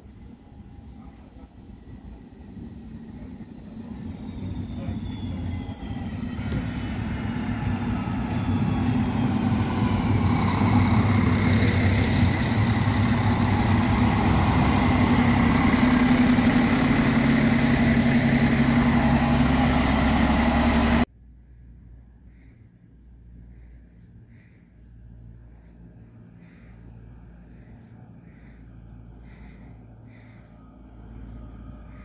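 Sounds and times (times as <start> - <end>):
train running hum: 0.0 - 21.1, 24.4 - 32.0.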